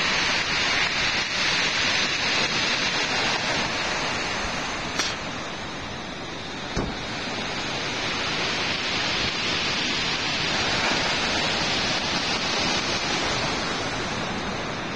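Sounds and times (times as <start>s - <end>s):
wind and rain rushing: 0.0s - 14.9s.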